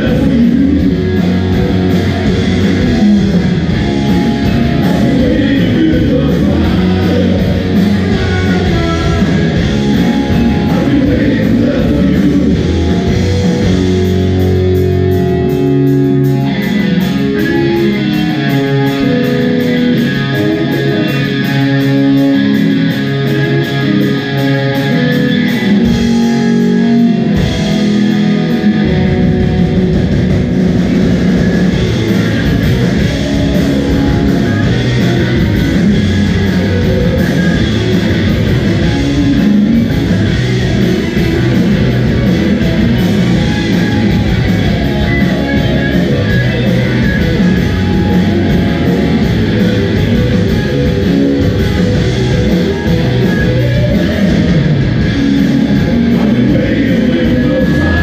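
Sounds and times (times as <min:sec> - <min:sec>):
bass guitar: 0:00.0 - 0:58.0
distorted electric guitars: 0:00.0 - 0:58.0
drums: 0:00.0 - 0:58.0.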